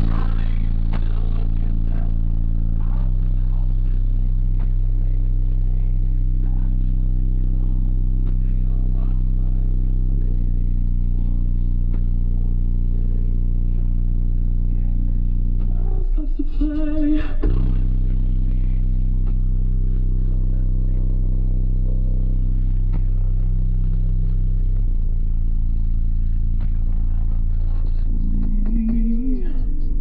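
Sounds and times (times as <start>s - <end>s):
deep bass note from subwoofers: 0.0s - 30.0s.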